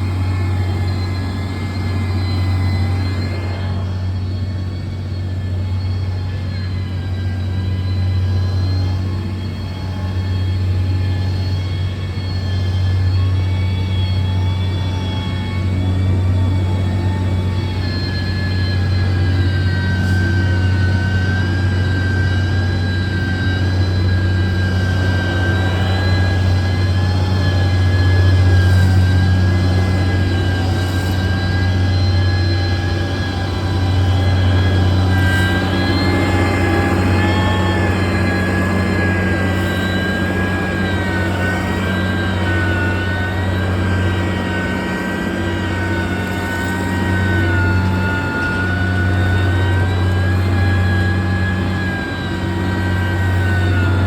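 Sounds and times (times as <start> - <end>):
diesel engine droning: 0.0 - 54.0
faint steady whine: 0.0 - 54.0.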